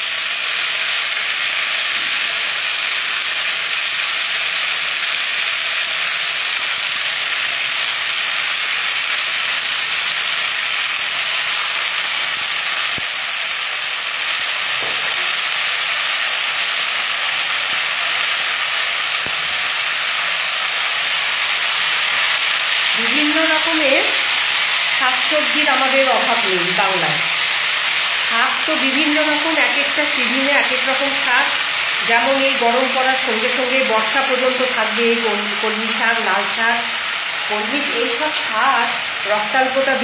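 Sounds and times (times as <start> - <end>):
greens sizzling in oil: 0.0 - 40.0.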